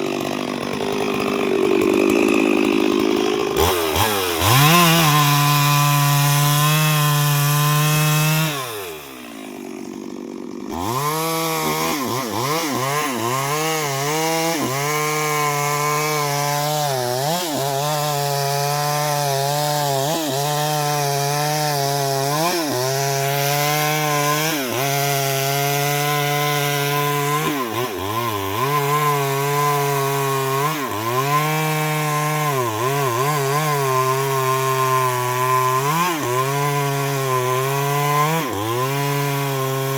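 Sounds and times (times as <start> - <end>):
chainsaw cutting into tree: 0.0 - 39.9.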